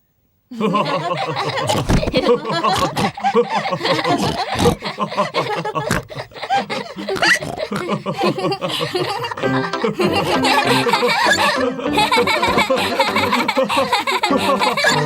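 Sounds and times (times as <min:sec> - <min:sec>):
cartoon characters laughing: 0:00.5 - 0:15.0.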